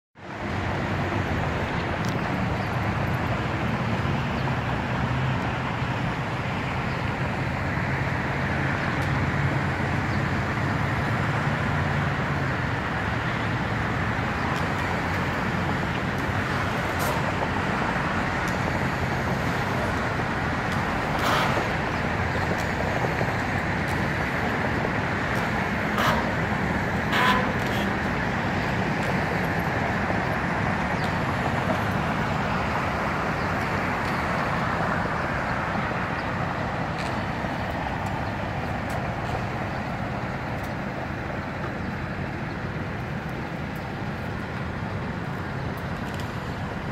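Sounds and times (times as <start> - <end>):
road traffic hum: 0.2 - 46.9.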